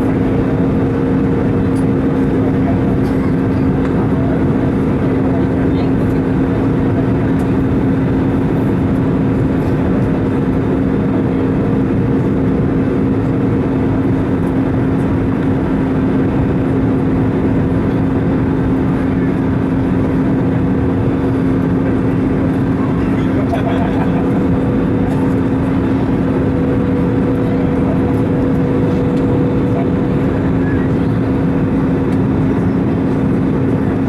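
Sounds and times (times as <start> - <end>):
aircraft engines droning: 0.0 - 34.0
constant low hum: 0.0 - 34.0.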